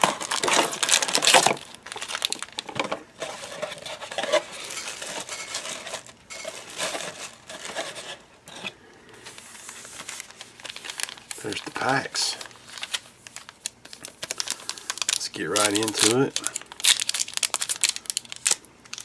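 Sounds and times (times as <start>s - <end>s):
plastic wrap tearing: 0.0s - 8.7s, 9.3s - 19.0s
packaging rustling: 0.0s - 19.0s.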